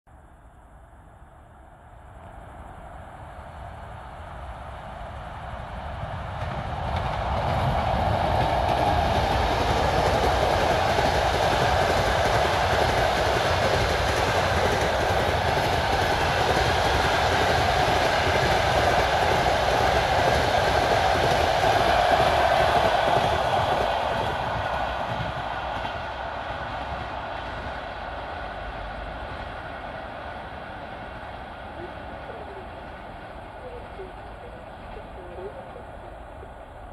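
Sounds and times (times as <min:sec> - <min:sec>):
passing train rumble: 0:00.2 - 0:36.9
wheels running on rails: 0:05.9 - 0:36.9.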